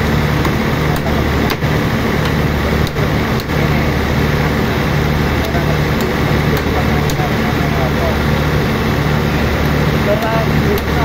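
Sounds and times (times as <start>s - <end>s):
sawmill machinery droning: 0.0s - 11.0s.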